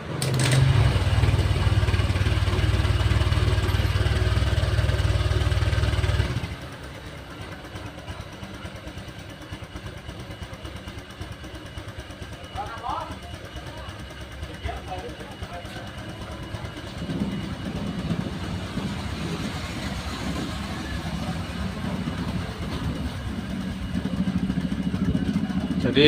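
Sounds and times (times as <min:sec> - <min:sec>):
scooter engine idling: 0:00.0 - 0:26.0.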